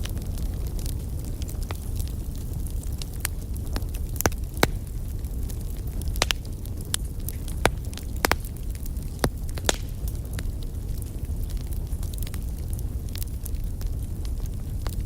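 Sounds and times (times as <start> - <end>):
fire crackles and pops: 0.0 - 15.0
fire flames rumbling: 0.0 - 15.0.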